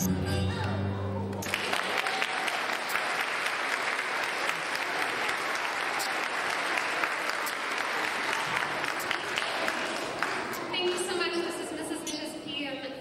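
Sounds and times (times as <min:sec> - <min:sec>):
crowd applauding: 0:00.6 - 0:11.4.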